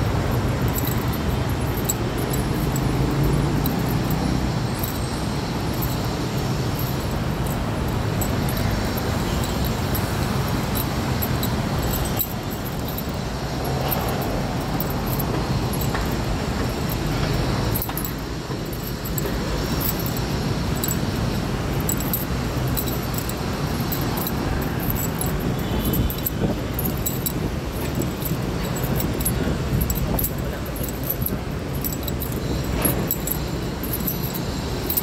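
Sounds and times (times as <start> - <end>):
city traffic rumble: 0.0 - 35.0
high clicks or jingles: 0.0 - 35.0.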